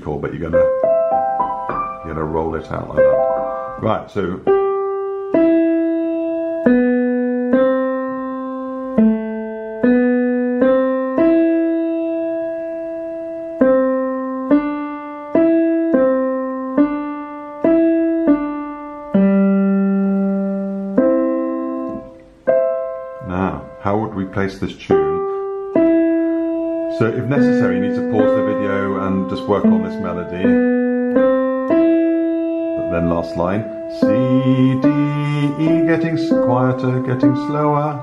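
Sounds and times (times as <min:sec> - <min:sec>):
digital piano melody: 0:00.0 - 0:38.0.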